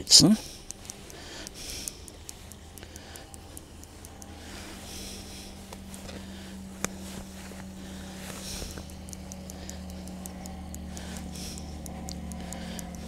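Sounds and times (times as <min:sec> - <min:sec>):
low steady hum: 0:00.0 - 0:13.0
salt grains ticking on meat: 0:00.0 - 0:13.0
sharp click: 0:00.0 - 0:13.0.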